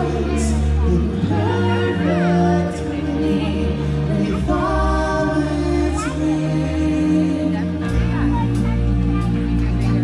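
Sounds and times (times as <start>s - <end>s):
choir singing long notes: 0.0s - 9.6s
deep bass: 0.0s - 10.0s.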